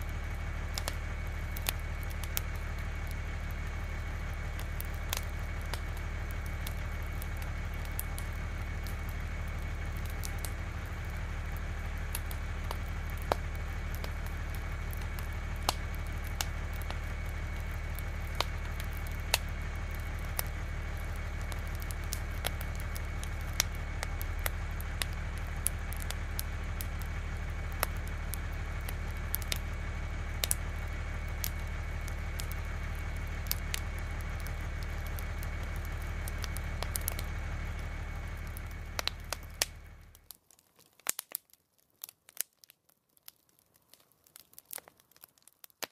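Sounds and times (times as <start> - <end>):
fire engine idling: 0.0 - 40.3
fire crackling and popping: 0.0 - 45.9.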